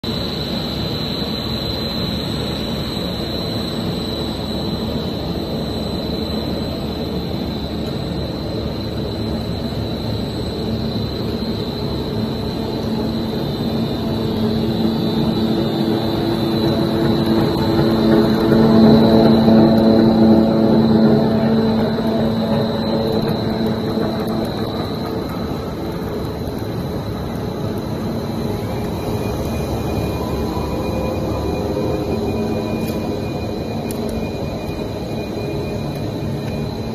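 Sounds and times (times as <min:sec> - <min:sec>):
machine drone: 0:00.1 - 0:36.9
thin high whine: 0:00.1 - 0:36.9.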